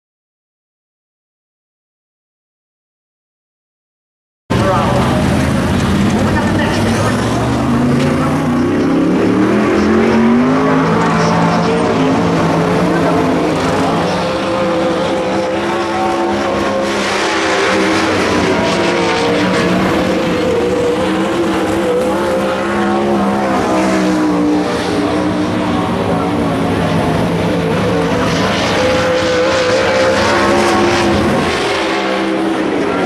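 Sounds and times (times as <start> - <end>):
race car engines running: 4.5 - 33.0.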